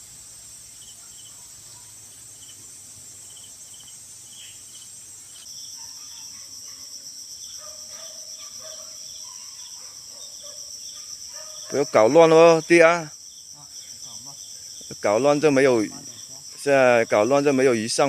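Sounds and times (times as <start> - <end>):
short insect chirps: 0.0 - 17.2
insects trilling: 0.0 - 18.0.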